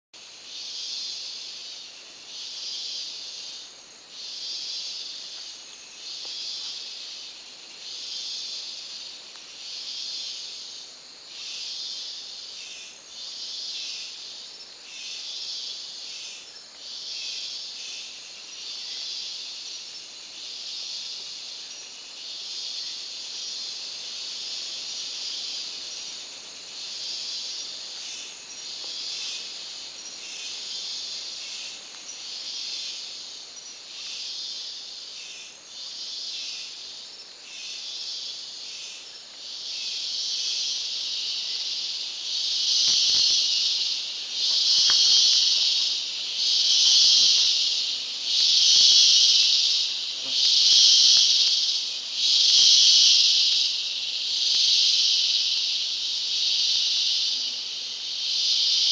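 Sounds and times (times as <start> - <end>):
cicadas pulsing chorus: 0.2 - 58.9.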